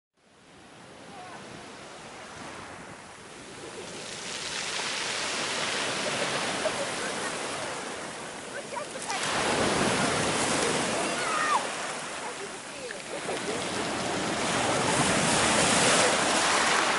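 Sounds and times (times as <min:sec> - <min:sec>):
waves washing up a pebble beach: 0:01.1 - 0:16.9.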